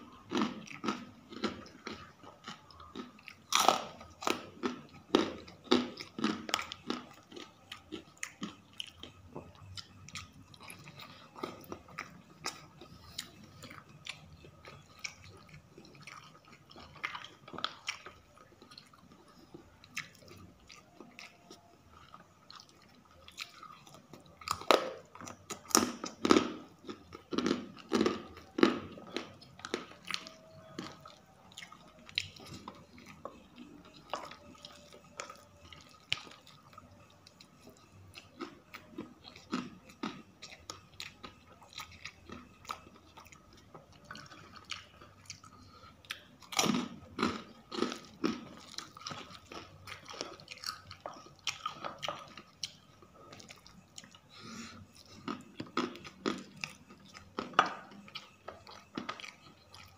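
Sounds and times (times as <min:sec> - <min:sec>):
chewing crunchy crackers: 0:00.0 - 0:59.9.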